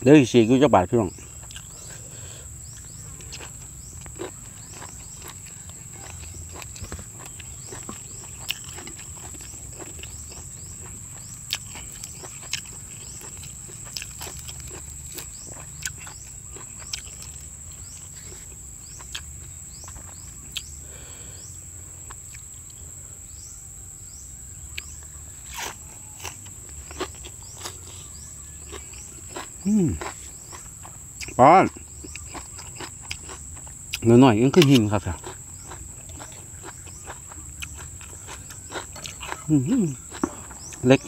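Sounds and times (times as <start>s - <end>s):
chewing: 1.1s - 20.8s, 24.7s - 41.0s.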